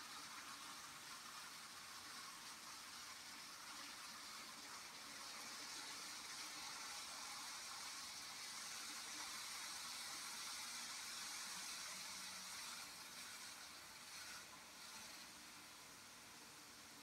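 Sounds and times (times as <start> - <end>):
model train wheels hissing: 0.0 - 17.0.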